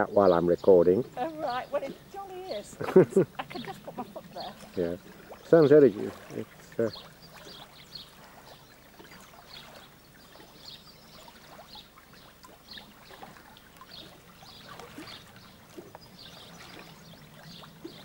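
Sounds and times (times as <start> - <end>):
pool water splashing: 0.0 - 18.0.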